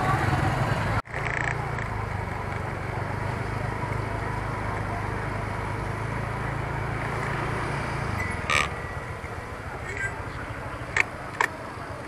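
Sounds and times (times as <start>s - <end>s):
motor scooter engine humming: 0.0s - 12.0s
road and traffic noise: 0.0s - 12.0s.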